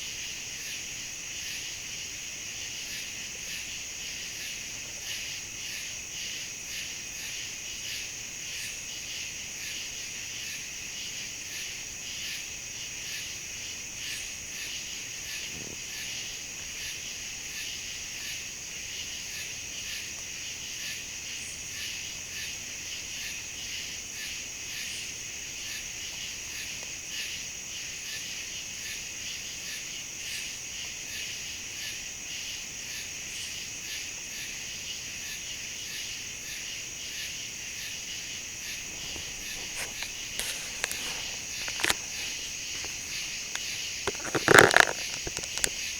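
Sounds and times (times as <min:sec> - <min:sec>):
low pulsing insect chirp: 0:00.0 - 0:45.9.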